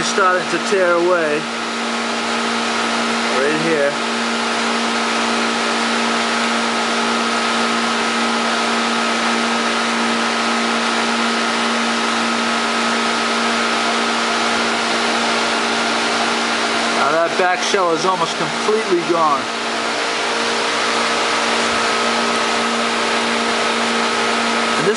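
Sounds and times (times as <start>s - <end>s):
constant machine hum: 0.0s - 24.9s.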